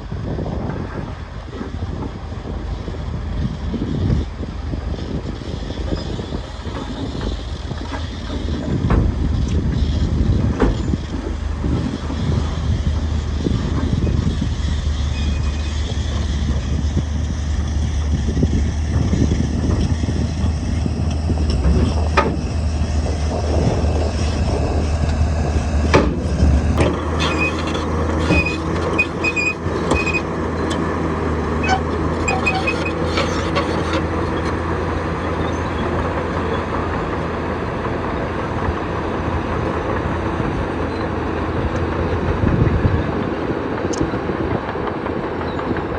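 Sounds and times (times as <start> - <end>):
diesel engine running: 1.3 - 42.7.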